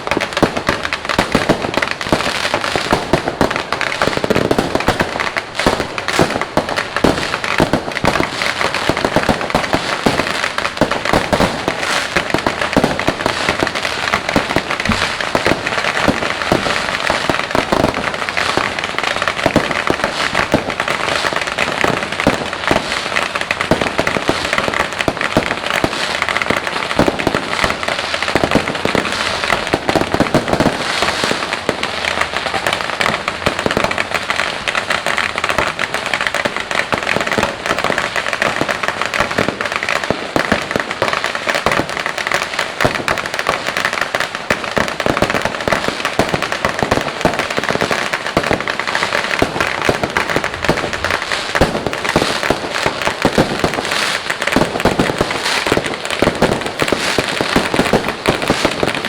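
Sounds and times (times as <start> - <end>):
firecrackers crackling and banging: 0.0 - 59.0.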